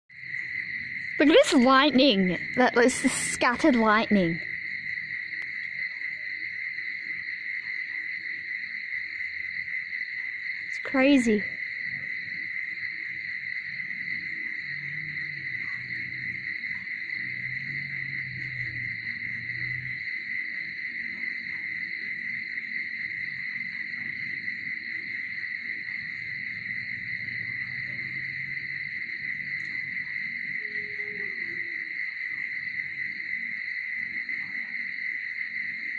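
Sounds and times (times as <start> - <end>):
crickets trilling: 0.1 - 35.9.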